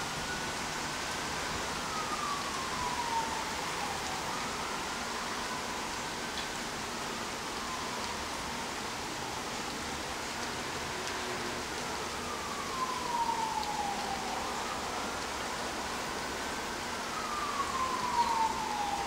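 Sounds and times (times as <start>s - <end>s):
emergency vehicle siren wailing: 0.1s - 19.0s.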